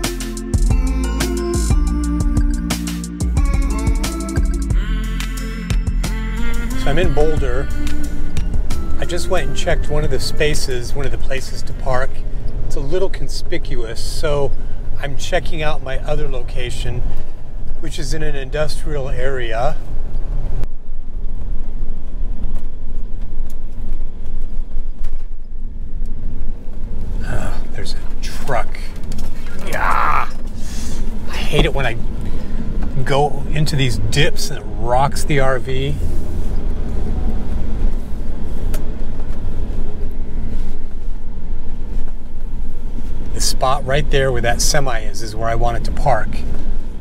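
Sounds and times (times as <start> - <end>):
engine and tyres rumbling: 0.0 - 47.0.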